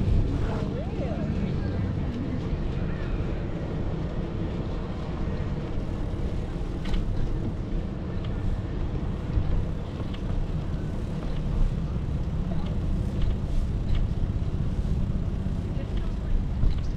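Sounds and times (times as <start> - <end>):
wind rumbling on microphone: 0.0 - 16.9.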